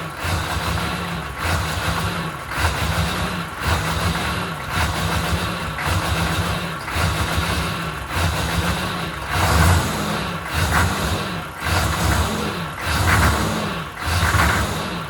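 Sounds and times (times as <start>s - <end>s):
diesel engine idling rough: 0.0s - 15.0s.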